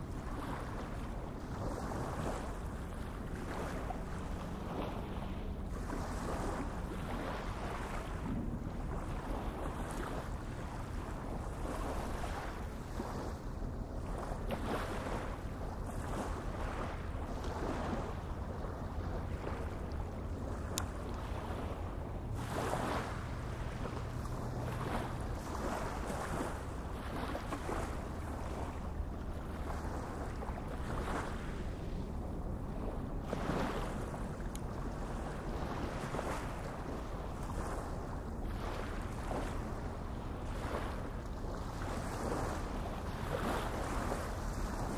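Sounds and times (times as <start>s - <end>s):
low steady hum: 0.0s - 44.9s
small waves lapping on shore: 0.0s - 44.9s
wind: 0.0s - 44.9s.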